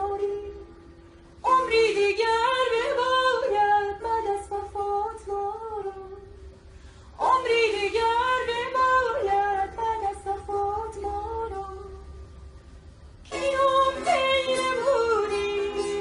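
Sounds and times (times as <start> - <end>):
woman singing slow melody: 0.0 - 0.8, 1.4 - 6.6, 7.2 - 12.2, 13.3 - 16.0.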